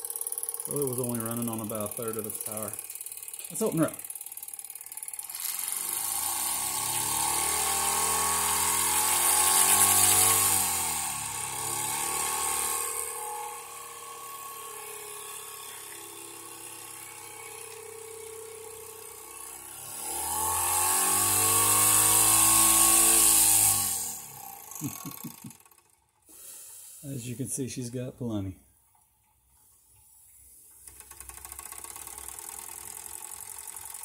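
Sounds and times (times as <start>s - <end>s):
toy steam engine whirring and hissing: 0.0s - 27.4s, 30.5s - 34.0s.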